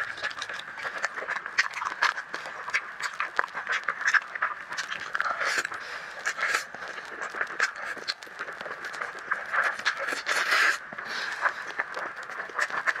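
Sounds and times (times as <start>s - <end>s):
noodles slurped and chewed: 0.0s - 13.0s
wet mouth clicks and smacks: 0.0s - 13.0s.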